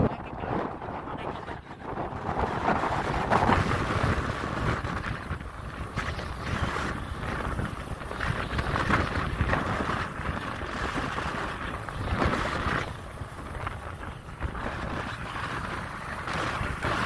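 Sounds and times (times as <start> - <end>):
motorbike rumble: 0.0 - 17.0
wind buffeting microphone: 0.0 - 17.0.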